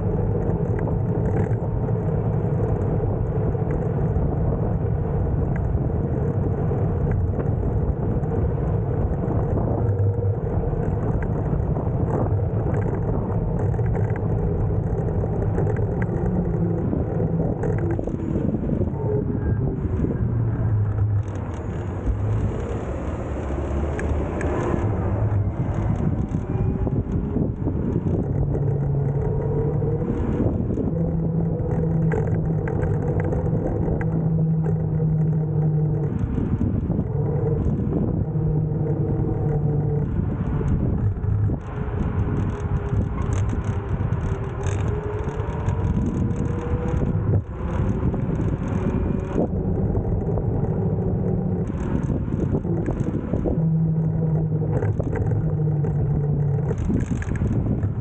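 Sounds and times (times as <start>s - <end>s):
electric scooter motor whine: 0.0s - 58.0s
road rumble: 0.0s - 58.0s
wind on microphone: 0.0s - 58.0s.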